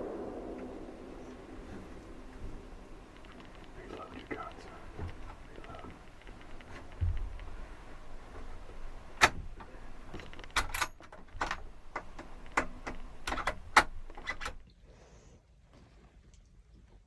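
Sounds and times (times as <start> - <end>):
sharp clicks and knocks: 0.0 - 14.6.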